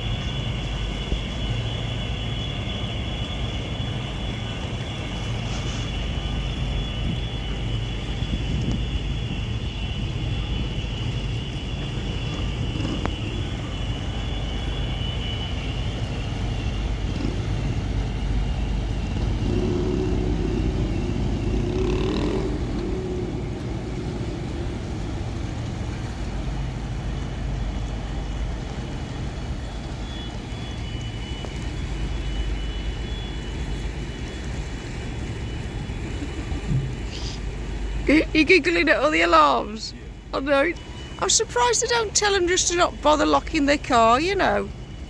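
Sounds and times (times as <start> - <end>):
car alarm wavering tone: 0.0 - 45.0
low steady rumble: 0.0 - 45.0.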